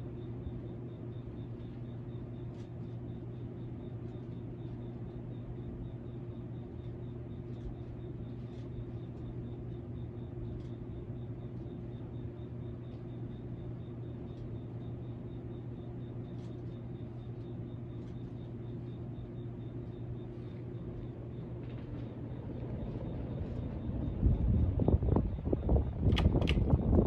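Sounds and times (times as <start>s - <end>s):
ceiling fan motor humming: 0.0s - 27.0s
faint high whine: 0.0s - 27.0s.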